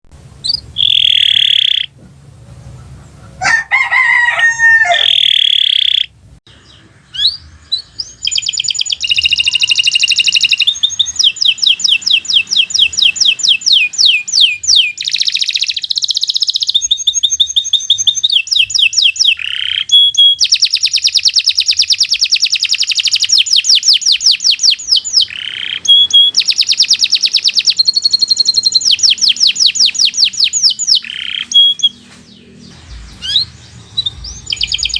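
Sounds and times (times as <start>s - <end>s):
canary singing trills: 0.4s - 3.5s, 4.6s - 34.9s.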